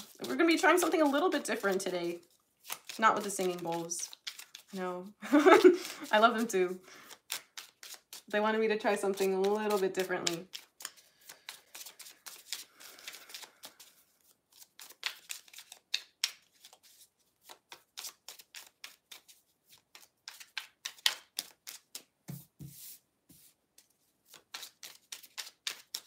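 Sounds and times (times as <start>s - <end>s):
cards being shuffled: 0.0s - 4.8s, 5.4s - 8.3s, 8.9s - 26.0s.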